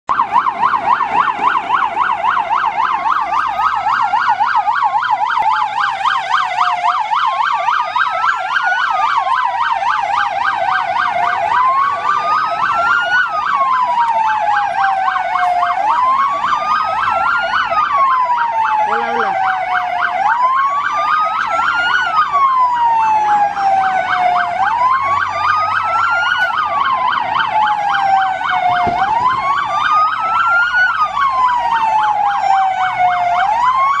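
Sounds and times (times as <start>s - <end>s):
siren fast yelp: 0.1s - 34.0s
siren slow wail: 0.1s - 34.0s.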